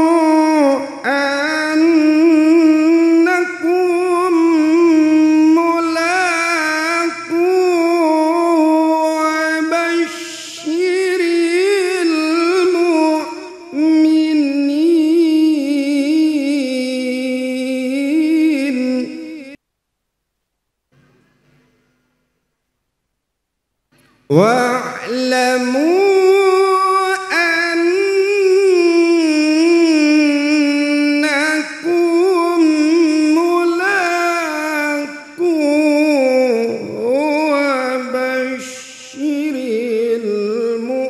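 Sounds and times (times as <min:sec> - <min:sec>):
person chanting recitation: 0:00.0 - 0:19.6, 0:24.3 - 0:41.0.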